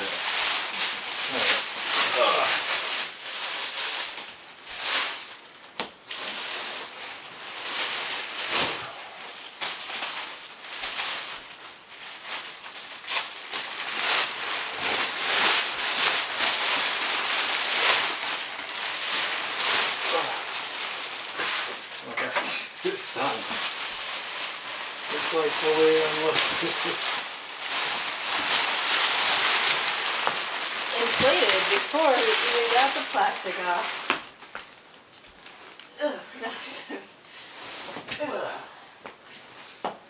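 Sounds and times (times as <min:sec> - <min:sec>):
plastic wrapping crinkling: 0:00.0 - 0:39.8.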